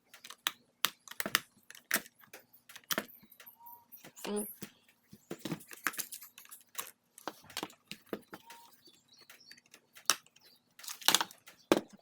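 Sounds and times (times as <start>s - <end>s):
plastic parts clicking and clattering: 0.0s - 12.0s.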